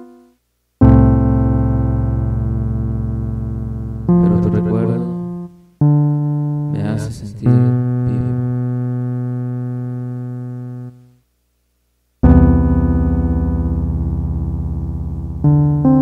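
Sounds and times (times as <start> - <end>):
slow sustained keyboard chords: 0.0 - 11.1, 12.2 - 16.0.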